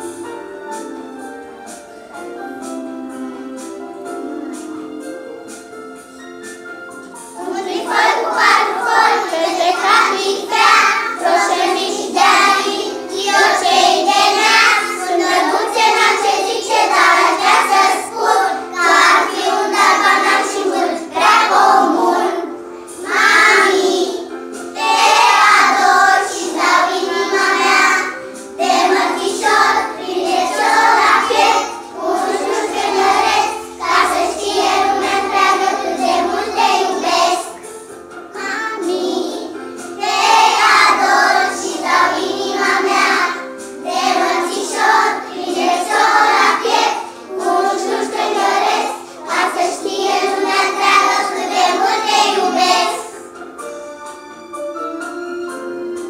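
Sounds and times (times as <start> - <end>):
children singing: 0.0 - 6.1, 7.2 - 53.6.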